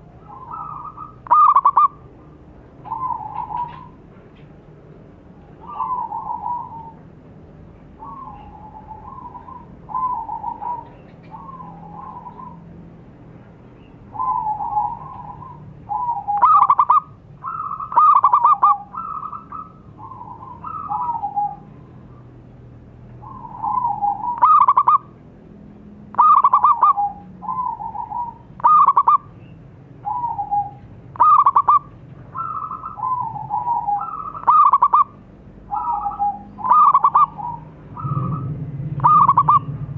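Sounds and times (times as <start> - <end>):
dove cooing: 0.0 - 2.1, 2.8 - 4.1, 5.4 - 7.1, 8.0 - 12.8, 14.1 - 22.3, 23.2 - 25.2, 26.1 - 29.3, 30.0 - 39.9.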